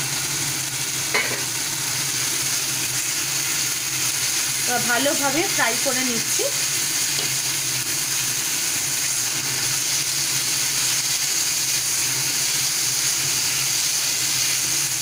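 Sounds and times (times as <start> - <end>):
meat and onion sizzling in oil: 0.0 - 15.0.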